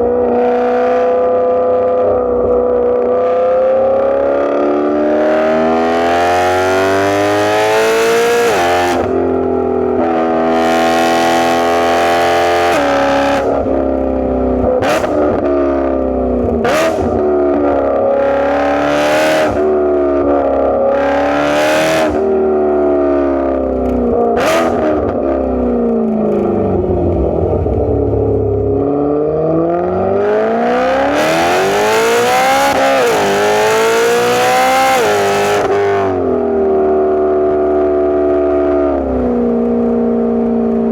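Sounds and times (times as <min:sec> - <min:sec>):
car engine revving: 0:00.0 - 0:36.6.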